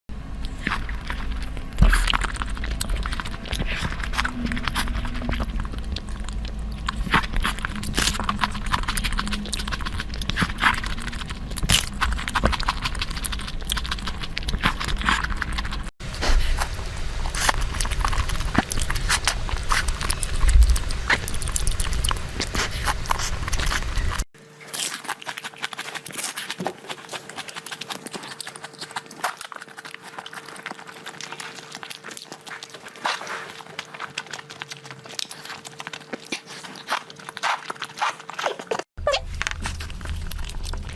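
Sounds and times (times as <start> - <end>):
faint steady hum: 0.1 - 37.3, 39.0 - 40.9
person chewing with mouth sounds: 0.2 - 40.9.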